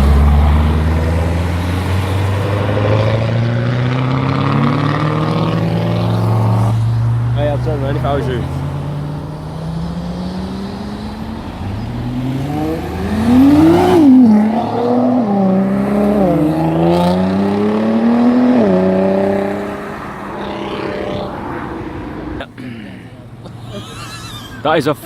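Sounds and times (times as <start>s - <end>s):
sports car engine accelerating: 0.0s - 22.5s.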